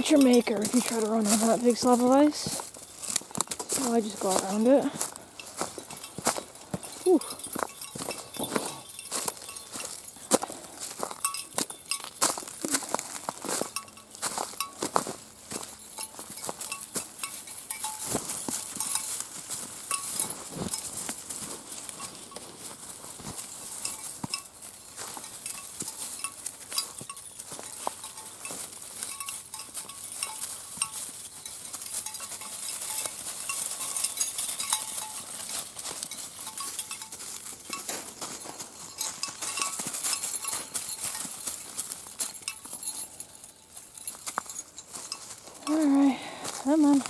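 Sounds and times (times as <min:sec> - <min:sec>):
footsteps crunching on snow: 0:00.0 - 0:47.0
light metallic jingling: 0:00.0 - 0:47.0.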